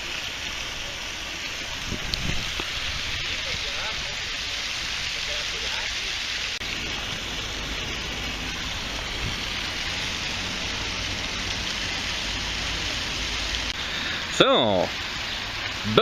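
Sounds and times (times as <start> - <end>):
waterfall rushing and splashing: 0.0 - 16.0.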